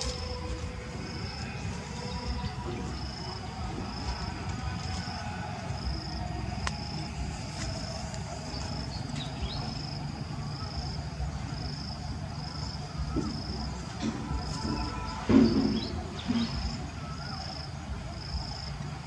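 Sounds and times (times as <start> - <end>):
insect chirping: 0.0 - 19.0
low background rumble: 0.0 - 19.0.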